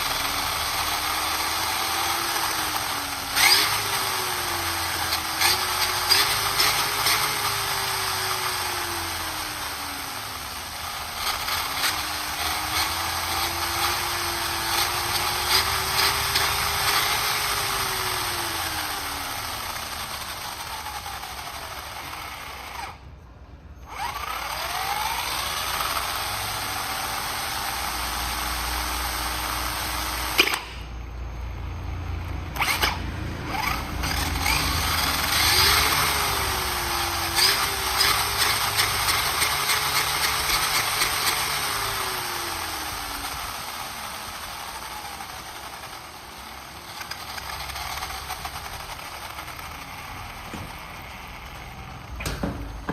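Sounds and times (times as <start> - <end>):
power tool motor running: 0.0 - 52.9.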